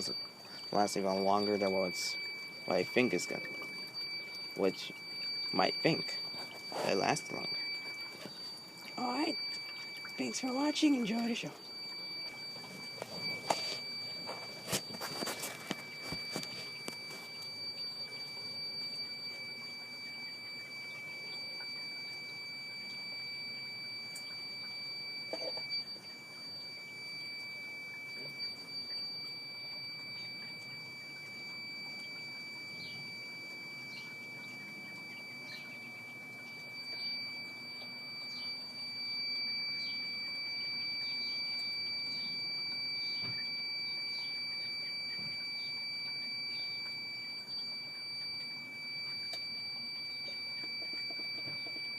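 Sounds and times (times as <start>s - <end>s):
high-pitched electronic alarm tone: 0.0s - 51.9s.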